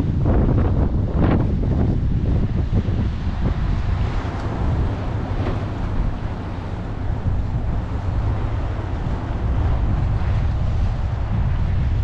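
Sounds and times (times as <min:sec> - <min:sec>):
choppy river water: 0:00.0 - 0:12.0
wind buffeting microphone: 0:00.0 - 0:12.0.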